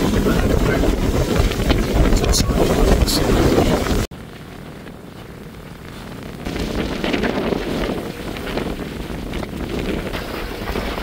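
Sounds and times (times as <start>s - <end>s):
water splashing along a hull: 0.0s - 11.0s
wind buffeting the microphone: 0.0s - 11.0s.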